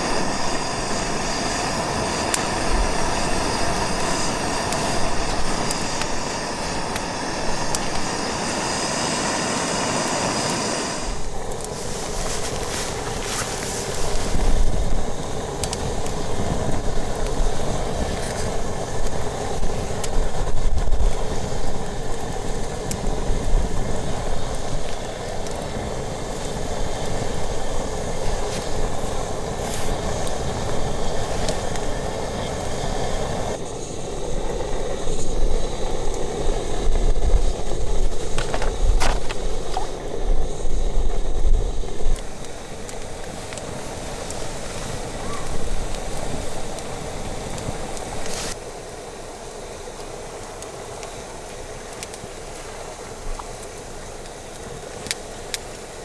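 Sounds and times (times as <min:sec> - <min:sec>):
wind rumbling on microphone: 0:00.0 - 0:48.6
campfire crackling: 0:00.0 - 0:56.0.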